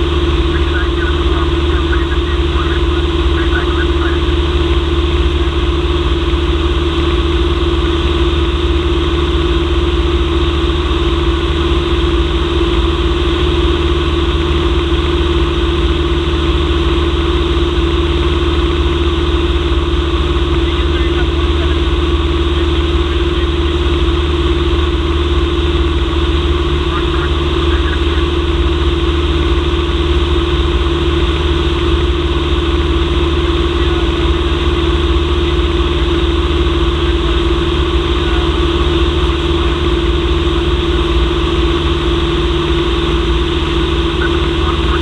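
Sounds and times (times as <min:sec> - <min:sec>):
light aircraft engine drone in cabin: 0:00.0 - 0:45.0.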